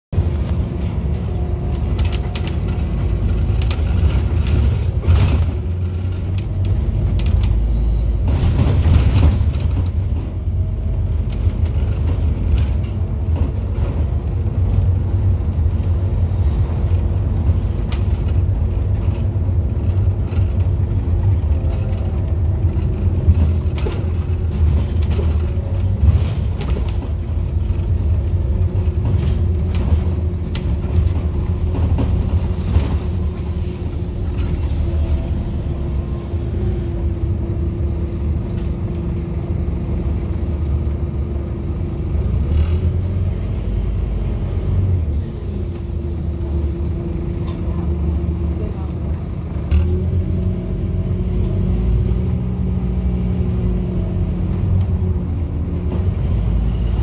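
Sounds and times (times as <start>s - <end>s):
bus bumps: 0.1s - 57.0s
bus engine and road rumble: 0.1s - 57.0s.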